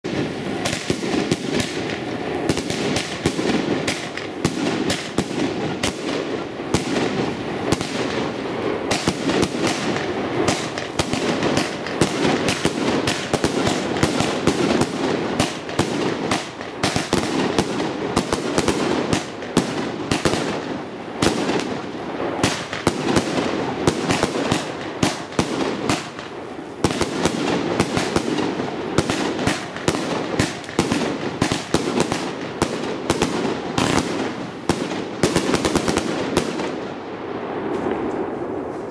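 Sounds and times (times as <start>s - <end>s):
firework cake launches and bursts: 0.0s - 38.9s.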